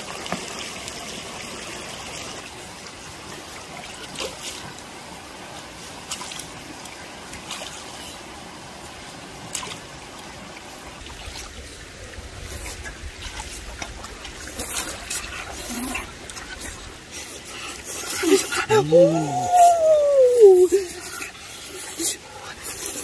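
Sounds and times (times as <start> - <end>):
running water trickling: 0.0 - 23.0.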